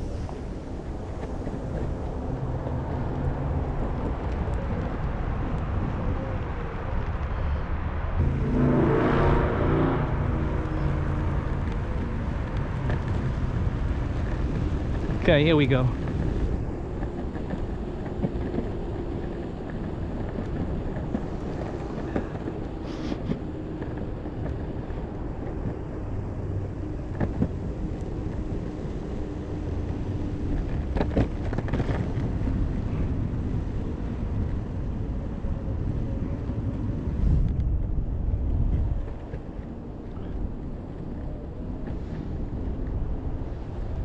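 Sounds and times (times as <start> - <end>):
skateboard wheels rumbling on pavement: 0.0 - 44.0
wind buffeting microphone: 0.0 - 44.0.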